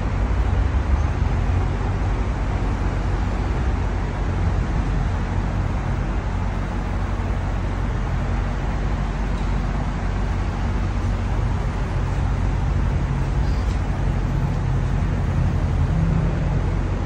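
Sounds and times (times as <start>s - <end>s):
traffic rushing: 0.0s - 17.0s.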